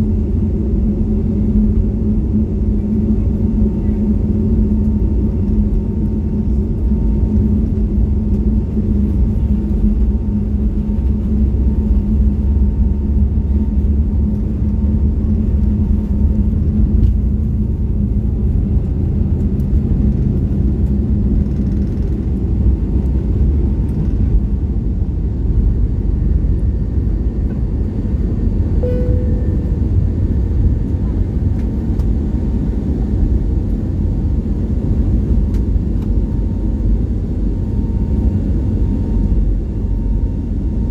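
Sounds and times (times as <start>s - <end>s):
hum: 0.0s - 36.1s
jet engine cabin rumble: 0.0s - 40.9s.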